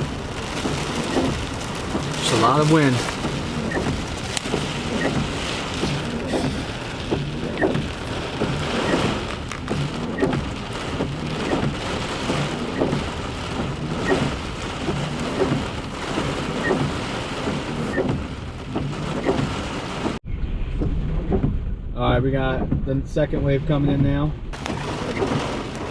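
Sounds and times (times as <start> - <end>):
heavy rain pouring: 0.0 - 20.2, 24.6 - 25.9.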